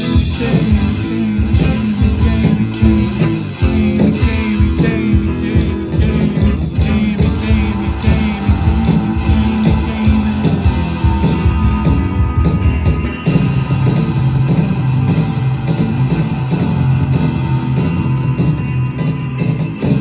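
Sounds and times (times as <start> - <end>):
rock band guitar: 0.0 - 20.0
steady drum beat: 0.0 - 20.0.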